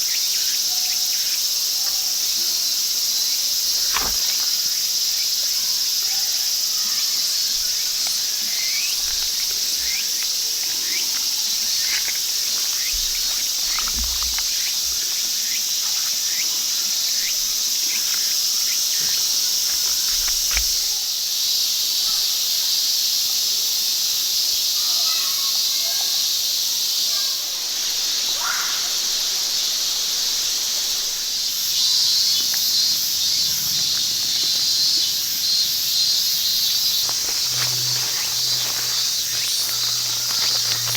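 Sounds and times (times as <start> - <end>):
fast pulsing insect call: 0.0 - 40.9
high-pitched insect chorus: 0.0 - 40.9
short insect chirps: 3.0 - 22.3, 26.4 - 40.9.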